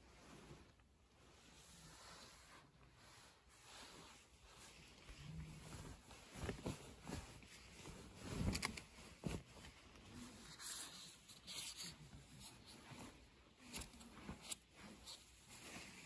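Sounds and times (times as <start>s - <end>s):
bedding rustling: 0.0s - 16.0s.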